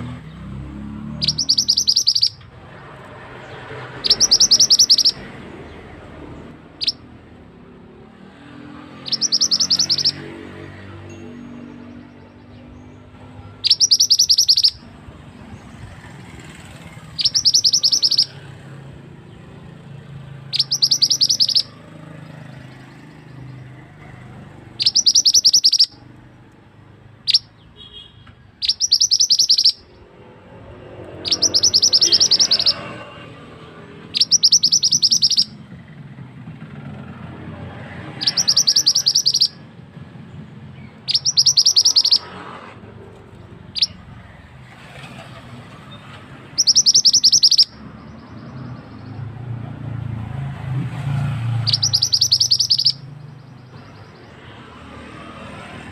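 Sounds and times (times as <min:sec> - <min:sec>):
bird high rapid trill: 0:01.1 - 0:07.2, 0:08.2 - 0:26.2, 0:27.2 - 0:35.9, 0:36.7 - 0:39.7, 0:40.3 - 0:55.9.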